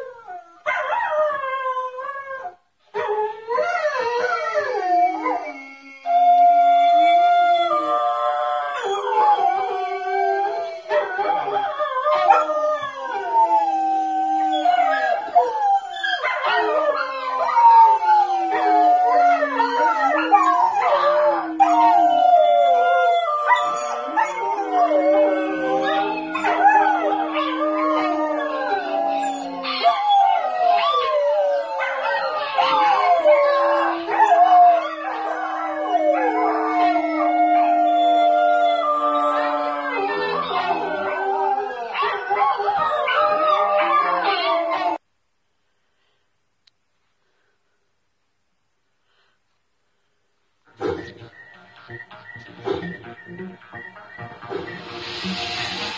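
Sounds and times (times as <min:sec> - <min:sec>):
dogs howling in chorus: 0:00.0 - 0:45.0.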